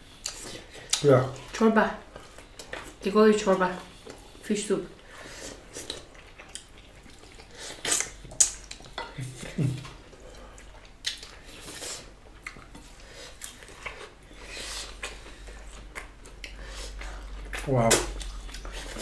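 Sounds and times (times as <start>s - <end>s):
people chewing: 0.0s - 19.0s.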